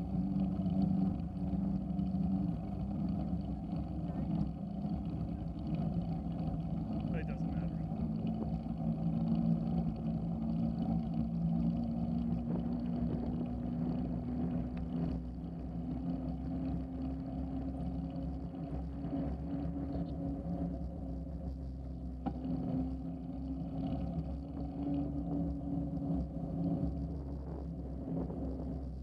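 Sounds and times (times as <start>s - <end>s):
bicycle tyres rolling on asphalt: 0.0s - 29.0s.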